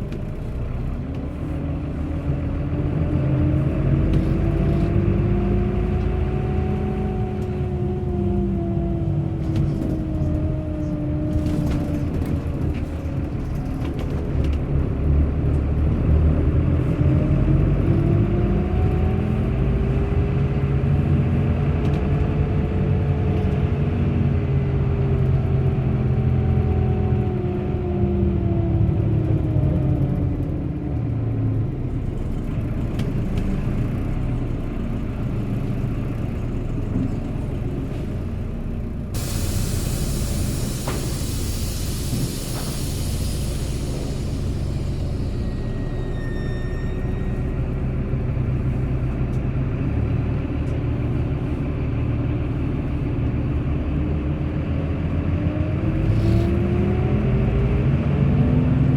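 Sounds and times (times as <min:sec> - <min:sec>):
bus engine and road rumble: 0:00.0 - 0:58.9
bus whine rising in pitch: 0:01.4 - 0:58.9.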